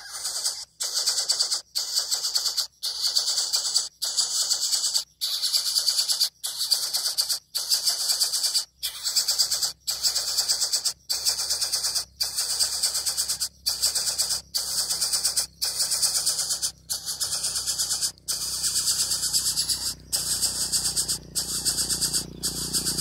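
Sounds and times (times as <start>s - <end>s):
bird chick rasping hiss: 0.0s - 23.0s.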